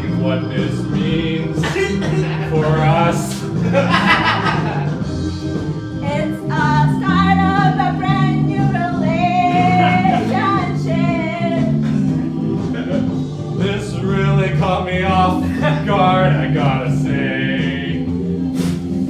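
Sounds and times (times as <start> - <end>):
musical accompaniment: 0.0 - 19.0
stepping bass line: 0.0 - 19.0.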